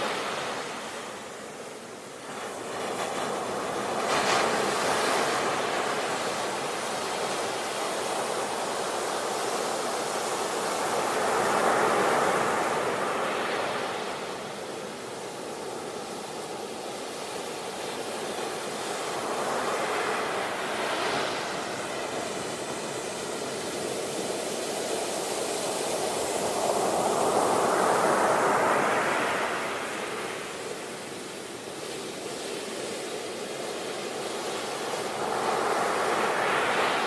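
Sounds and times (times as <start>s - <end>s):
sea waves washing onto shore: 0.0s - 37.0s.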